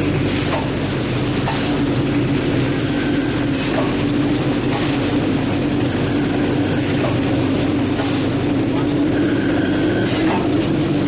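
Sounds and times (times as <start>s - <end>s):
machine motor hum: 0.0s - 11.0s.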